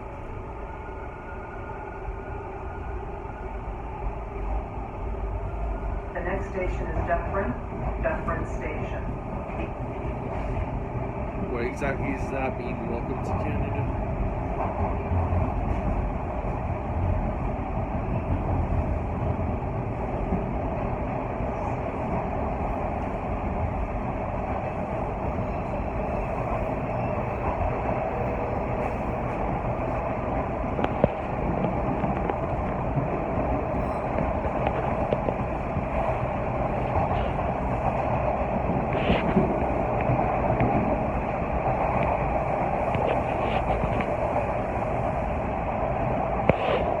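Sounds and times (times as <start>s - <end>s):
subway train running: 0.0s - 47.0s.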